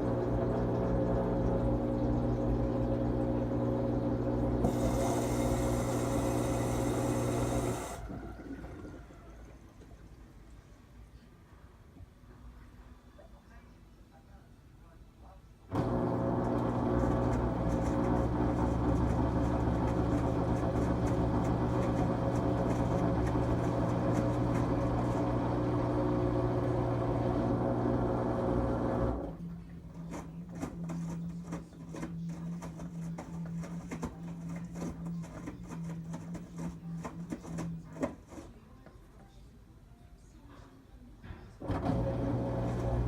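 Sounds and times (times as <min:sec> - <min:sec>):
washing machine hum: 0:00.0 - 0:10.8, 0:15.7 - 0:38.8, 0:41.6 - 0:43.0.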